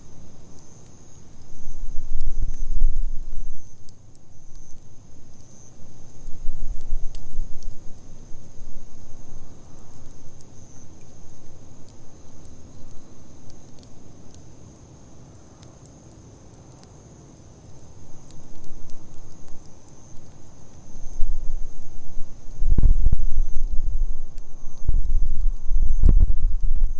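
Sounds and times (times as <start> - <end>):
campfire crackling: 0.0 - 26.9
crickets chirring: 0.0 - 26.9
low fire rumble: 0.0 - 26.9.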